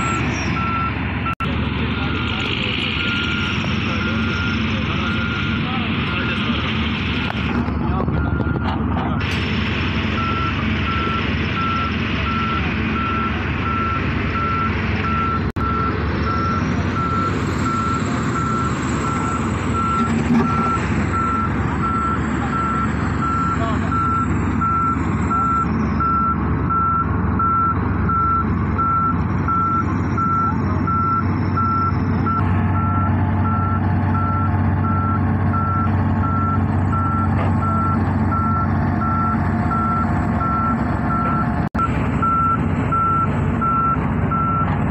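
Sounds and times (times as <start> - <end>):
reversing alarm beeping: 0.0 - 9.3, 10.1 - 44.8
diesel machinery engines droning: 0.0 - 44.9.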